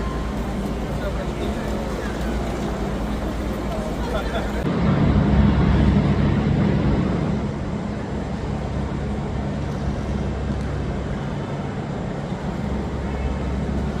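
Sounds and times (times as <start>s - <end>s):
high-speed train humming: 0.0s - 14.0s.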